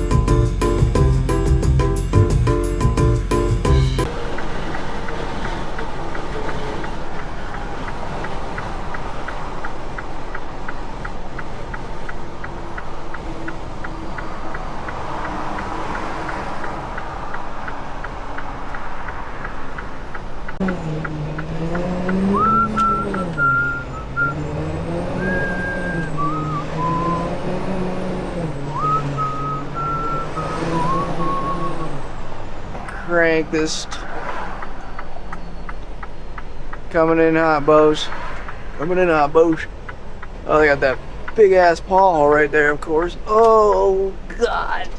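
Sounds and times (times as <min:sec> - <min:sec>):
engine shifting through gears: 0:00.0 - 0:44.9
regular ticking: 0:00.0 - 0:44.9
truck engine and road rumble: 0:00.0 - 0:44.9.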